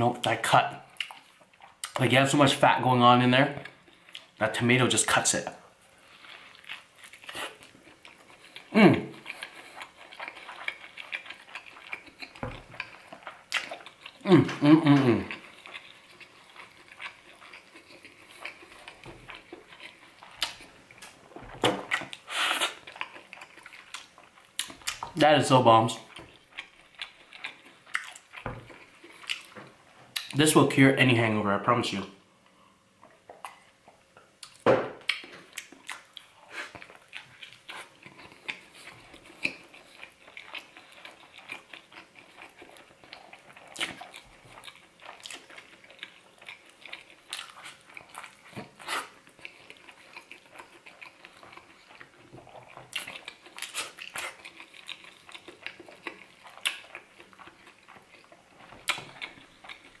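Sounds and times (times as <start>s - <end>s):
chewing with wet mouth clicks: 0.8s - 2.0s, 3.6s - 4.4s, 6.1s - 25.2s, 26.0s - 30.4s, 33.0s - 60.0s.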